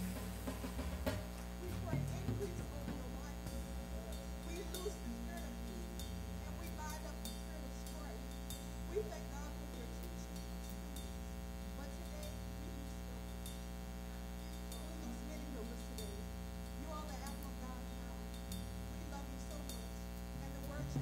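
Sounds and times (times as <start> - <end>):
low electrical hum: 0.0 - 21.0
faint indistinct voices: 1.0 - 21.0.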